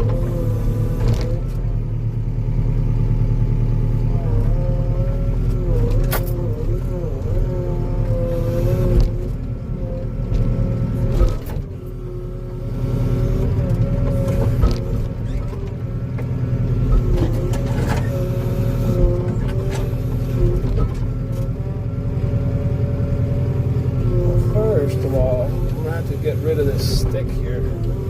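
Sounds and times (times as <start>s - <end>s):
hydraulic whine: 0.0s - 1.8s, 4.0s - 28.0s
diesel engine running: 0.0s - 28.0s.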